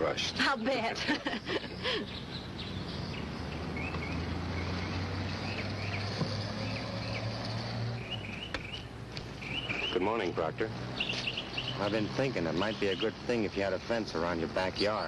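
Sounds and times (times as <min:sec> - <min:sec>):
birds chirping: 0:00.0 - 0:15.0
car engine humming: 0:00.0 - 0:15.0.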